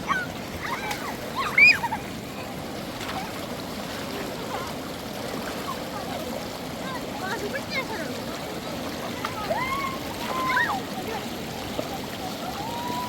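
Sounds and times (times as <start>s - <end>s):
river water running: 0.0s - 13.0s.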